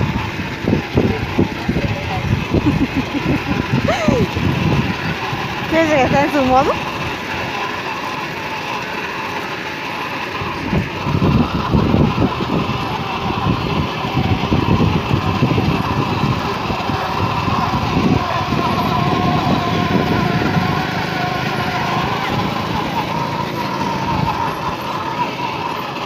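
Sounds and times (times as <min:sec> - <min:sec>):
toy motor whine: 0:00.0 - 0:26.0
wheels rumbling over paving stones: 0:00.0 - 0:26.0.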